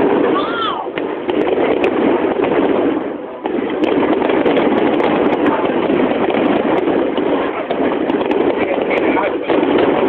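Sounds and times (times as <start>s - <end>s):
faint firework cracks: 0.0s - 10.0s
hubbub of outdoor crowd: 0.0s - 10.0s.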